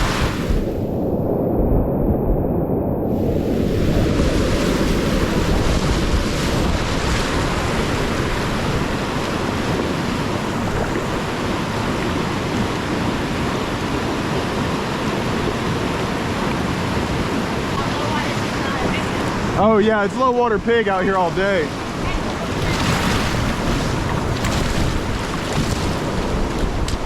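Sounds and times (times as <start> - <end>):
whitewater rapids roaring: 3.8 - 27.0.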